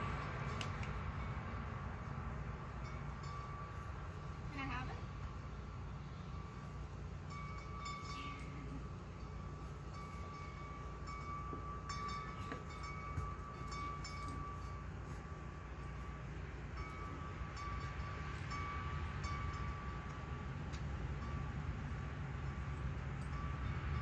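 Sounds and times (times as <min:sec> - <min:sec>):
low steady rumble: 0:00.0 - 0:24.0
tubular wind chime ringing: 0:00.0 - 0:24.0.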